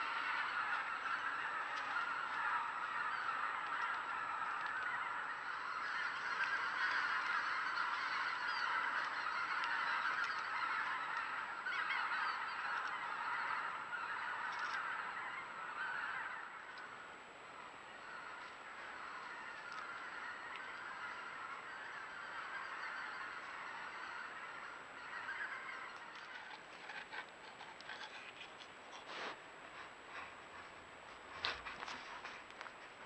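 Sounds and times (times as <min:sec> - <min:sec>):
flock of geese honking: 0:00.0 - 0:33.0.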